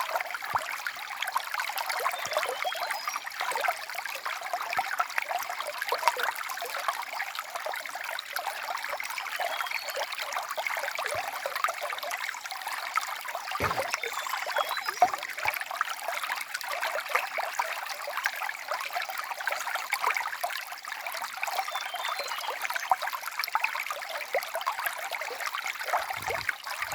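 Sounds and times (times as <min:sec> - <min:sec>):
stream trickling and babbling: 0:00.0 - 0:26.9.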